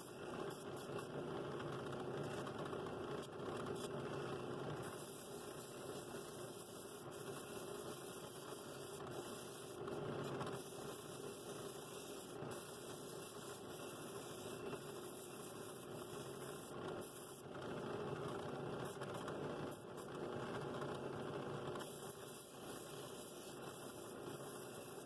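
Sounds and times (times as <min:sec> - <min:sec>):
steady motor hum: 0:00.0 - 0:25.0.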